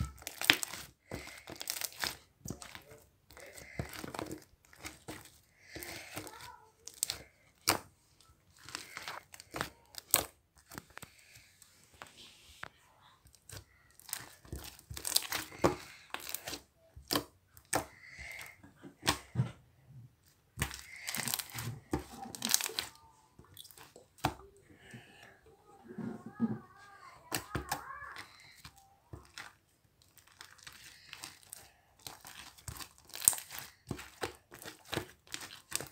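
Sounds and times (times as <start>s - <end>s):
slime squished by hand: 0.0s - 11.4s, 13.3s - 19.3s, 20.5s - 25.0s, 27.2s - 35.9s.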